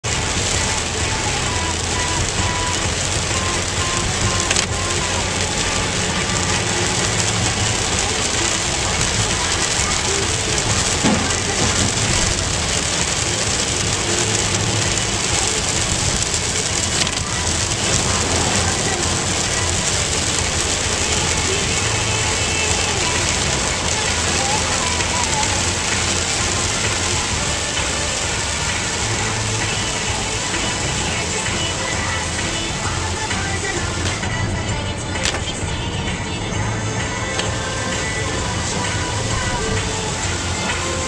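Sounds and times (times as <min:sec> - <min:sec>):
heavy rain on car roof: 0:00.0 - 0:41.0
tyre and road noise: 0:00.0 - 0:41.0.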